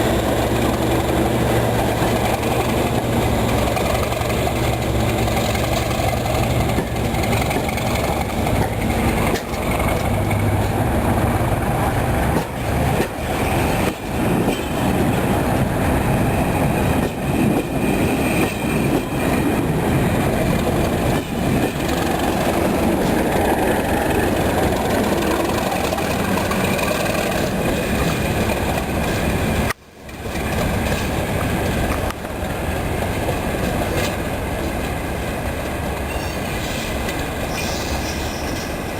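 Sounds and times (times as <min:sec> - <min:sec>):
train knocks: 0:00.0 - 0:35.0
diesel locomotive engines running: 0:00.0 - 0:38.9
train wheels rumbling: 0:00.0 - 0:38.9.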